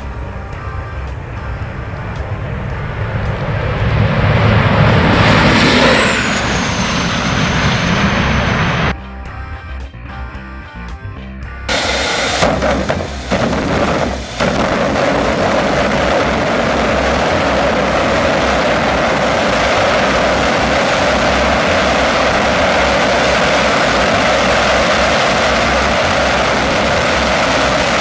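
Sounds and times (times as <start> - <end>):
jet engines roaring: 0.0 - 9.0, 11.7 - 28.0.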